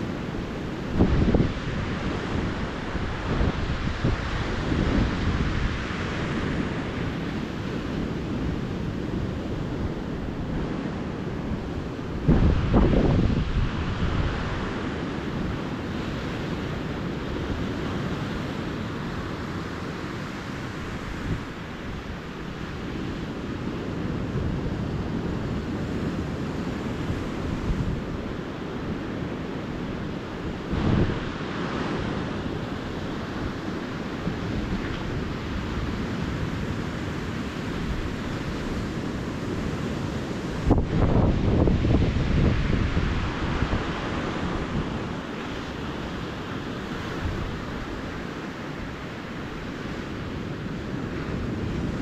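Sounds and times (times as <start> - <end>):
ocean surf on beach: 0.0 - 52.0
wind buffeting microphone: 0.0 - 52.0.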